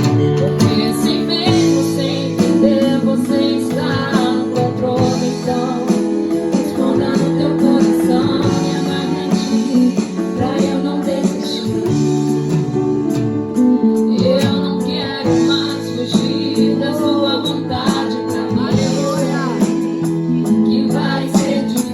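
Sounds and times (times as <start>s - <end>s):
drums: 0.0s - 21.9s
electric guitar: 0.0s - 21.9s
keyboard: 0.0s - 21.9s.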